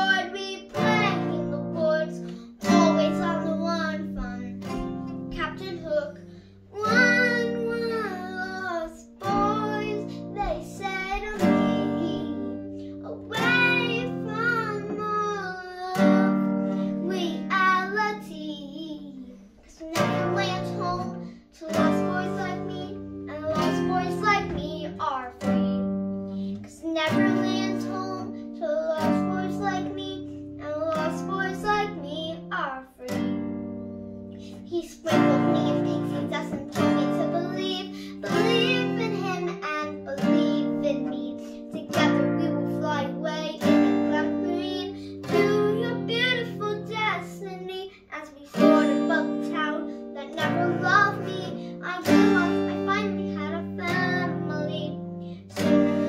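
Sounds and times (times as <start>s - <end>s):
classical guitar chords: 0.0s - 56.0s
girl singing: 0.0s - 56.0s.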